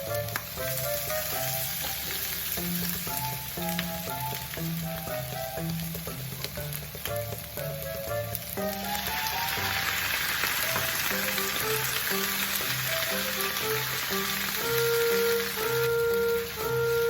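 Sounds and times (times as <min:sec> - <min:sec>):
food sizzling in a pan: 0:00.0 - 0:17.0
soft background music: 0:00.0 - 0:17.0.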